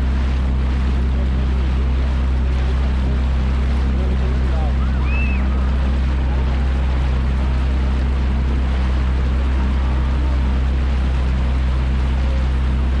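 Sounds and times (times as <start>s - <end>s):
jet ski engine droning: 0.0s - 13.0s
rushing water: 0.0s - 13.0s.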